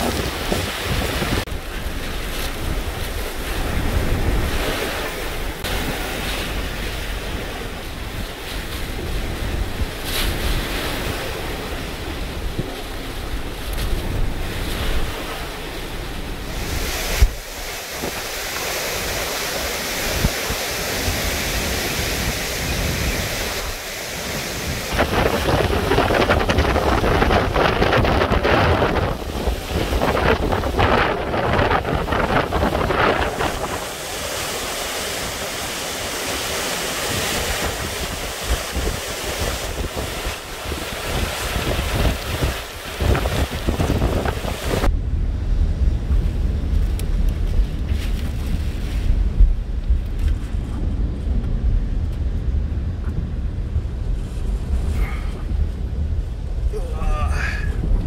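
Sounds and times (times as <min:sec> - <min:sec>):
strong wind and rain: 0:00.0 - 0:58.0
wind buffeting microphone: 0:00.0 - 0:58.0.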